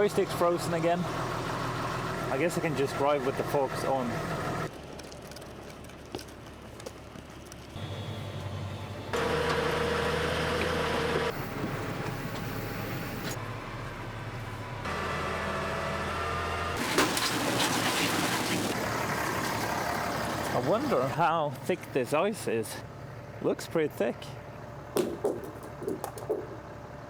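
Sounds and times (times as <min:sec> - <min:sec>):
diesel tractor engine running: 0:00.0 - 0:27.0.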